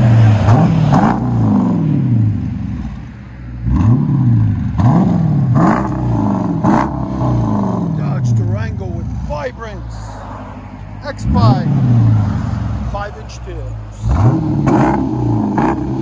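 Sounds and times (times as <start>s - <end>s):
engine revving in throttle blips: 0.0s - 3.0s, 3.6s - 9.4s, 10.7s - 13.1s, 13.8s - 16.0s.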